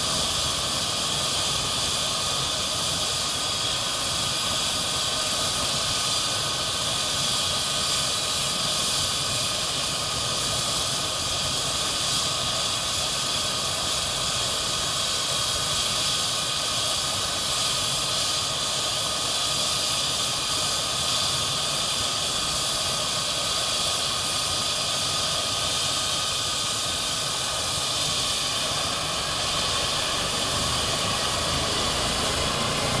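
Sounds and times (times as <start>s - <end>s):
helicopter turbine engines running: 0.0s - 33.0s.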